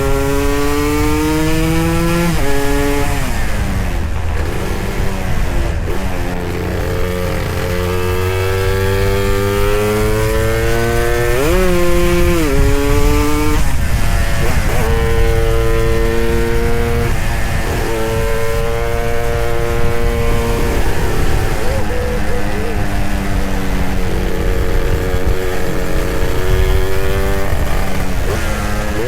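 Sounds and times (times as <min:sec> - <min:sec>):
low wind rumble: 0:00.0 - 0:29.0
motorcycle engine accelerating: 0:00.0 - 0:29.0.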